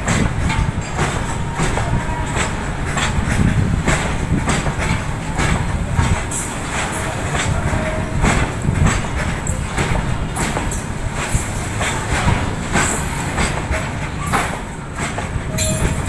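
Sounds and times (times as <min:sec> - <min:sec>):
train rumbling: 0:00.0 - 0:16.0
wheels clacking on rail joints: 0:00.0 - 0:16.0.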